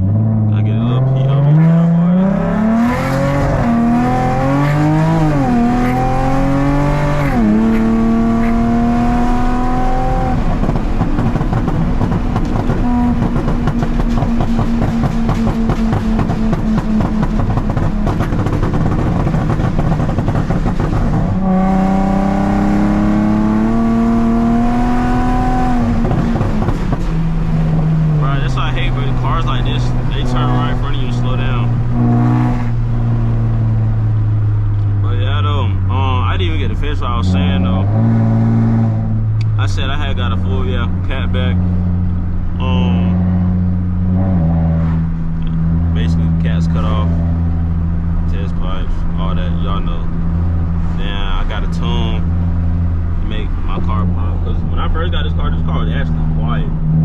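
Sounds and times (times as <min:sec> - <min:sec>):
car exhaust revving: 0:00.0 - 0:57.0.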